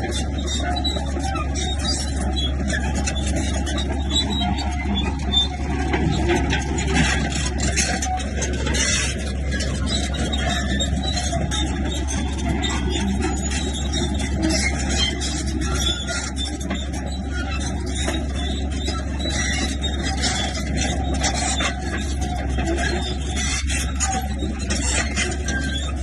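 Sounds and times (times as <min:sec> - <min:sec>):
bulldozer diesel engine running: 0:00.0 - 0:26.0
steel tracks rattling and squealing: 0:00.0 - 0:26.0.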